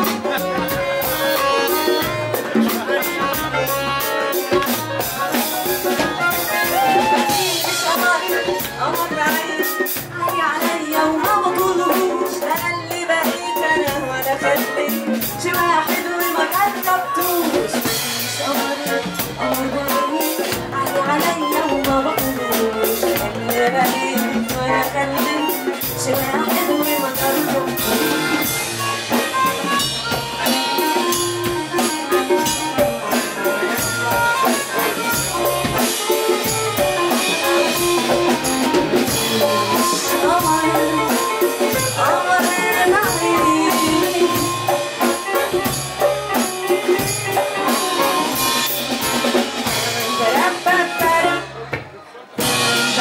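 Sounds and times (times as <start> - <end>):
harmonica: 0.0 - 51.7, 52.4 - 53.0
accordion: 0.0 - 53.0
drum kit beat: 0.0 - 53.0
keyboard: 0.0 - 53.0.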